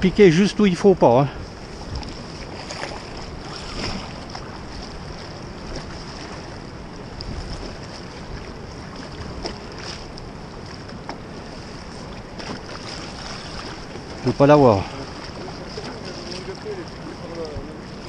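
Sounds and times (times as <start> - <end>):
fast-flowing river rushing: 0.0 - 18.0
wind buffeting microphone: 0.0 - 18.0.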